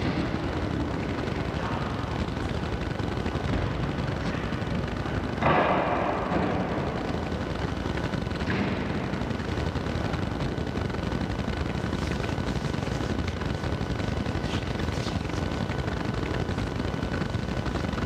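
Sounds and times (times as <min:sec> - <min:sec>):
steady rumbling background noise: 0:00.0 - 0:18.0.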